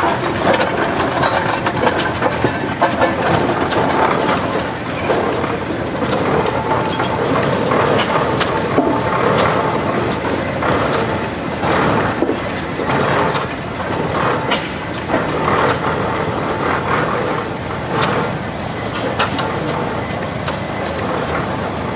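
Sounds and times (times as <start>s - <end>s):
mechanical clatter: 0.0s - 21.9s.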